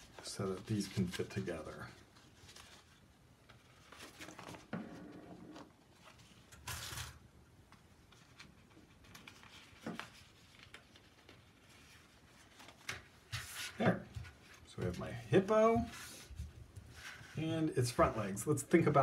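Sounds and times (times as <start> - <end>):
paper rustling: 0.0 - 19.0.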